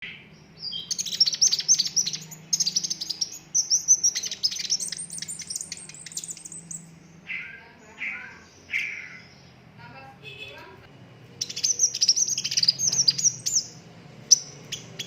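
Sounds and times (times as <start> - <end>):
bird singing high trills: 0.0 - 9.6, 11.4 - 15.0.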